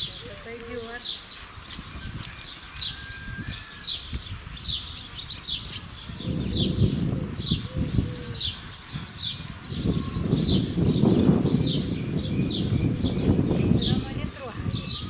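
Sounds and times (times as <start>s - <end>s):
small bird chirping: 0.0s - 14.1s.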